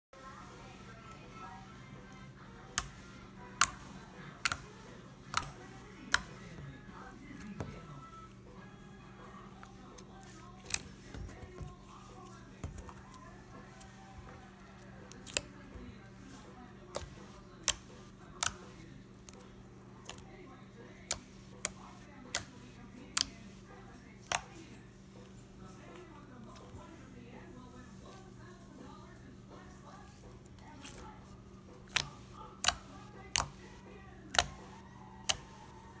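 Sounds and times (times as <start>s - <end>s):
faint low hum: 0.2s - 36.0s.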